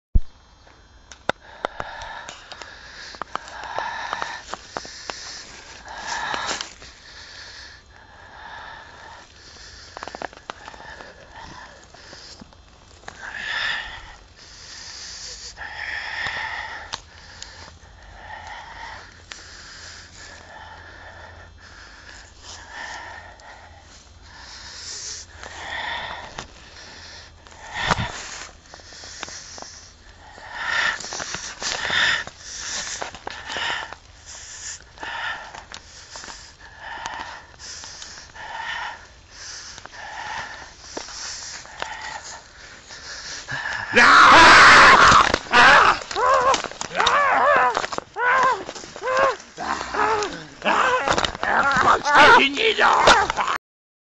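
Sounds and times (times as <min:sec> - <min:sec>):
person breathing hard: 0:00.5 - 0:53.6.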